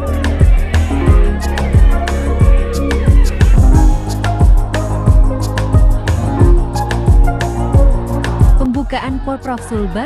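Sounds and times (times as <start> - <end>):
kick drum thumps: 0.4 - 9.2.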